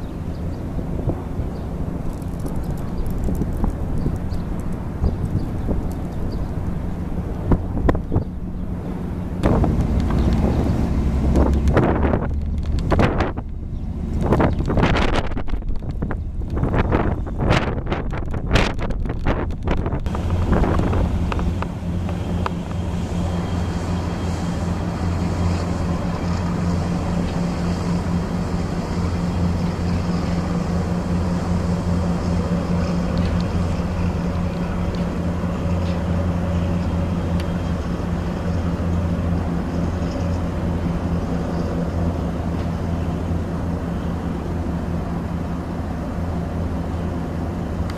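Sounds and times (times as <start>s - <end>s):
wind buffeting microphone: 0.0s - 44.3s
ferry engines droning: 0.0s - 47.9s.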